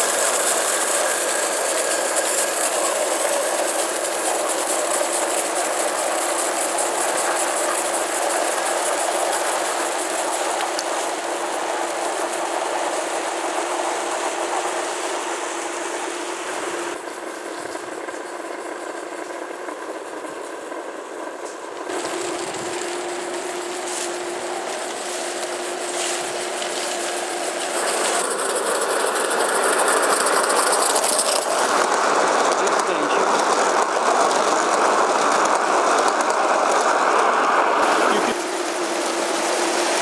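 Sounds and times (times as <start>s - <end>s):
model train wheel rumble: 0.0s - 40.0s
steam hissing: 0.0s - 40.0s.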